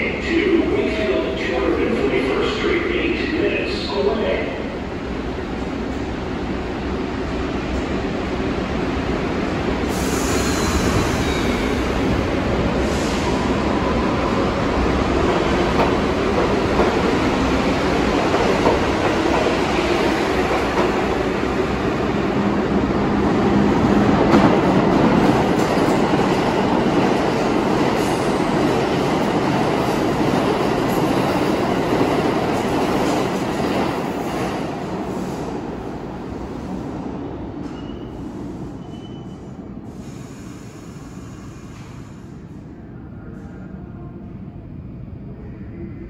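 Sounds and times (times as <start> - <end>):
subway train wheels rumbling on rail: 0.0 - 46.0.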